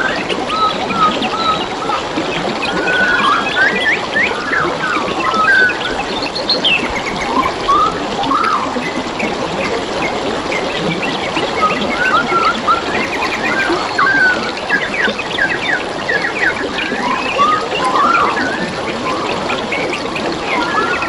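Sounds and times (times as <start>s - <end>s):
birds chirping and whistling: 0.0s - 21.0s
water trickling: 0.0s - 21.0s.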